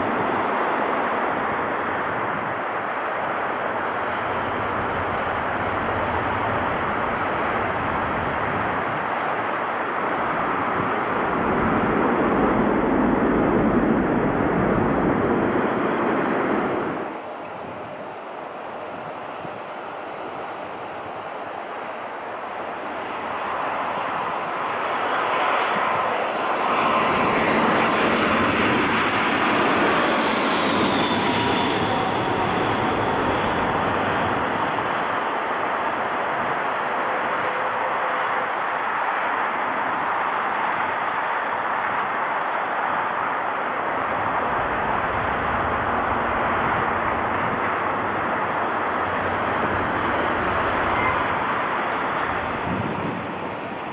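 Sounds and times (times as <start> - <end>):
airliner engines passing: 0.0 - 53.9.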